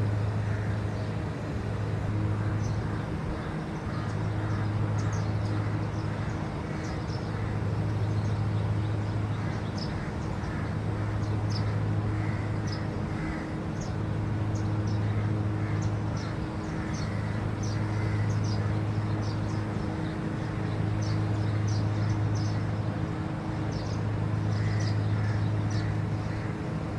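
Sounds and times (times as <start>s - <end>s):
low mechanical motor hum: 0.0s - 26.9s
small birds chirping: 1.9s - 26.8s.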